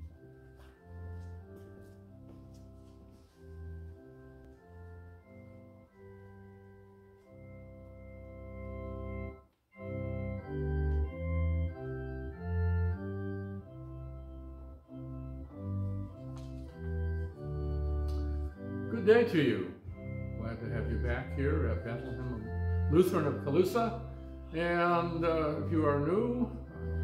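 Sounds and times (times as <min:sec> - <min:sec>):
organ chords: 0:00.0 - 0:27.0.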